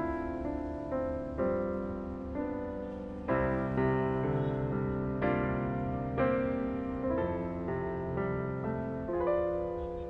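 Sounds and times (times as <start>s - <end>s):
soft slow piano music: 0.0s - 10.0s.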